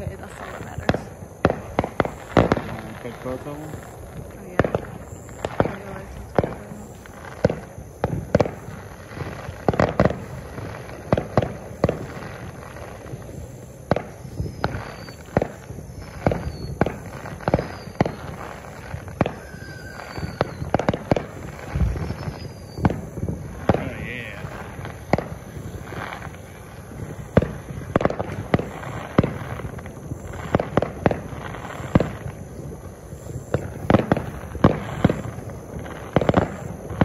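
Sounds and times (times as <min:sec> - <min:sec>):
falling firework whistles: 0:00.0 - 0:37.0
fireworks banging: 0:00.0 - 0:37.0.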